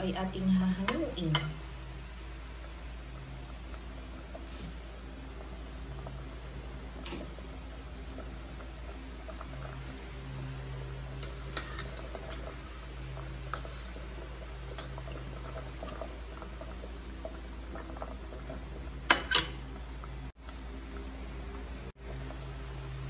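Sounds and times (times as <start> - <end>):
water boiling in a pot: 0.0 - 23.0.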